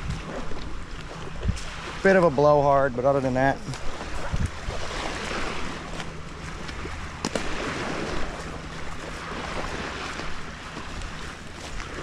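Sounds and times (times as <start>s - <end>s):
wind buffeting microphone: 0.0s - 2.1s, 3.5s - 12.0s
small waves washing on shore: 0.0s - 12.0s.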